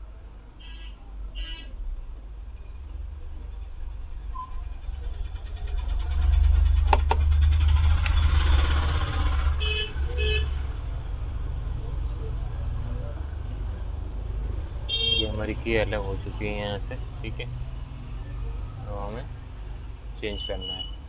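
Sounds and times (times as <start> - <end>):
engine rumble: 0.0 - 20.3.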